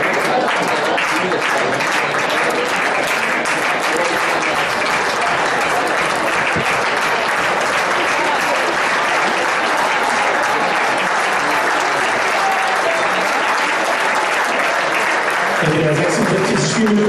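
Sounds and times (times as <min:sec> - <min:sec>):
crowd voices: 0:00.0 - 0:17.0
stadium crowd applauding: 0:00.0 - 0:17.0.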